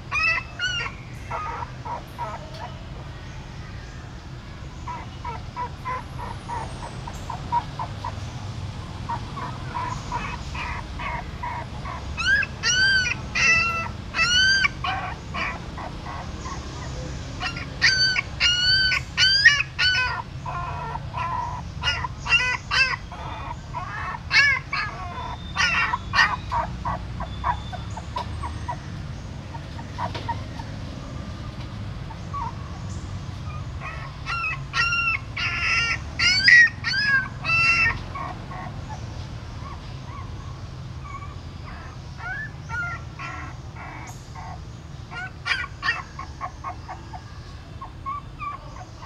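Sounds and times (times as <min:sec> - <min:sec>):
puppies whimpering and squealing: 0:00.0 - 0:49.0.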